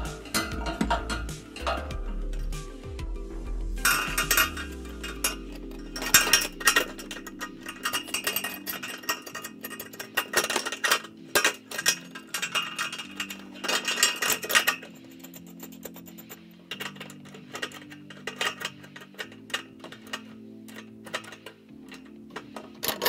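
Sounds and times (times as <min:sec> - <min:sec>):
metal hardware clinking: 0:00.0 - 0:02.8, 0:03.8 - 0:23.0
soft background music: 0:00.0 - 0:23.0.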